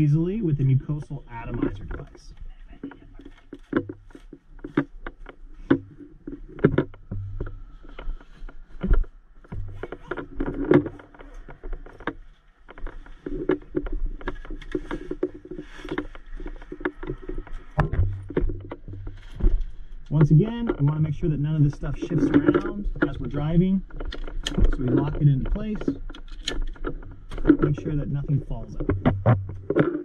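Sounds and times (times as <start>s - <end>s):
low steady hum: 0.0s - 30.0s
equipment clicking and rustling: 1.0s - 30.0s.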